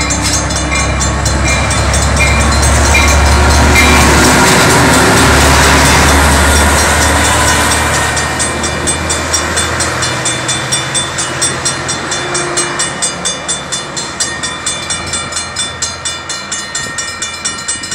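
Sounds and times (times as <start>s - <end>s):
railway crossing bell ringing: 0.0s - 17.9s
train passing: 0.0s - 17.9s.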